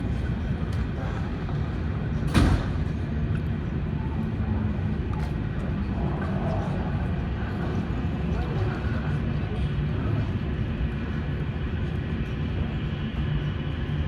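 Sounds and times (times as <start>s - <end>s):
aircraft engine low rumble: 0.0s - 14.0s.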